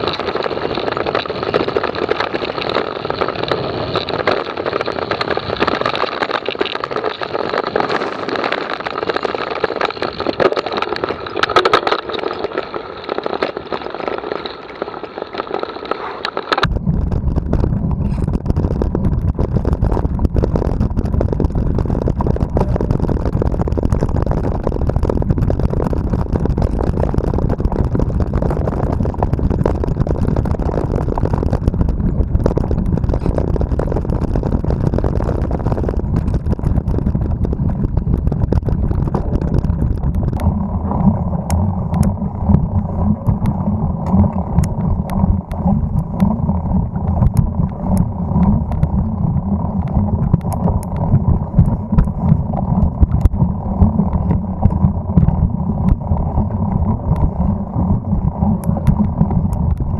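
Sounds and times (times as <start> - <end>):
bike clicks and rattles: 0.0 - 49.0
bike tyre riding noise: 0.0 - 59.9
wind rumble on microphone: 0.0 - 59.9.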